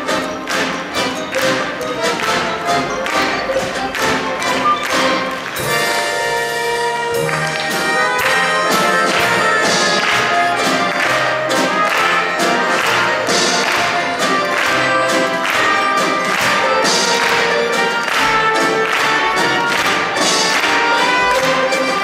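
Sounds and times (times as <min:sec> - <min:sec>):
orchestra with brass playing: 0:00.0 - 0:22.0
sharp percussive beats: 0:00.0 - 0:22.0.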